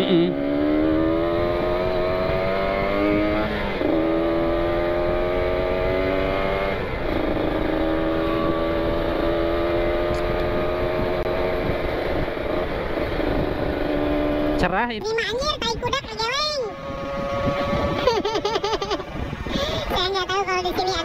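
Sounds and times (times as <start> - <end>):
motorcycle engine shifting gears: 0.0 - 14.8, 16.7 - 19.5.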